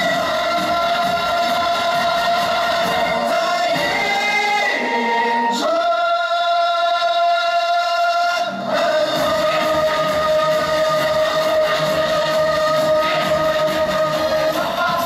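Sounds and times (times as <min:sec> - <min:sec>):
choir-like held chords: 0:00.0 - 0:15.0.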